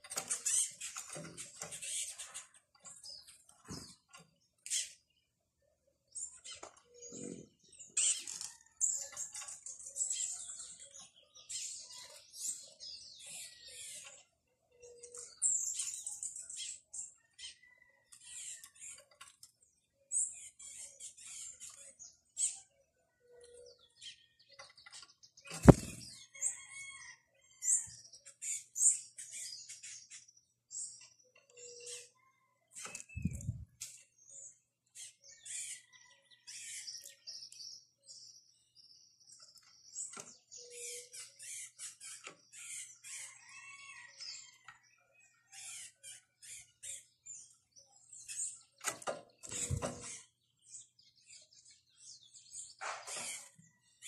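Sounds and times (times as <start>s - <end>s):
birds chipping and twittering: 0.0s - 54.0s.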